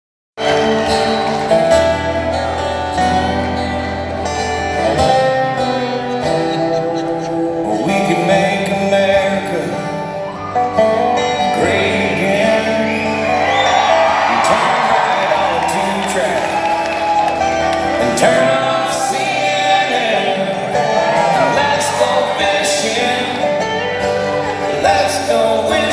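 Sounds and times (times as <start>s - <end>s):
acoustic guitars playing country music: 0.4s - 25.9s.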